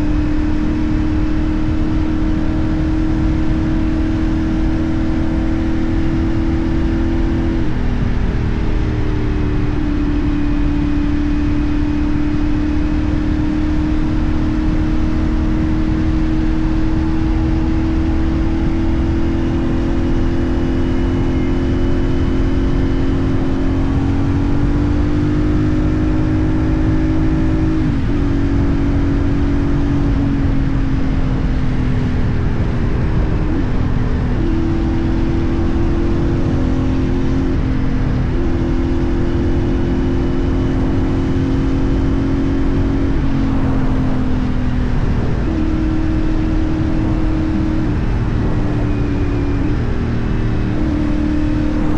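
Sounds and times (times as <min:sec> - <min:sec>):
motorcycle engine cruising: 0:00.0 - 0:51.9
wind and road rush: 0:00.0 - 0:51.9.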